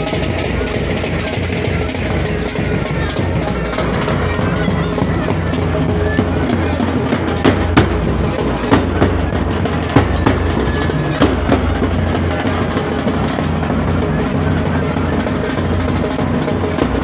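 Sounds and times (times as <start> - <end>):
pipe band playing: 0.0 - 17.0.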